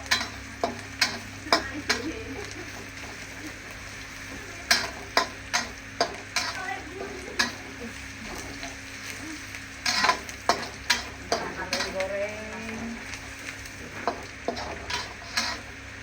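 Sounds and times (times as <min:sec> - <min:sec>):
food sizzling in hot oil: 0:00.0 - 0:16.0
spatula scraping a pan: 0:00.0 - 0:16.0.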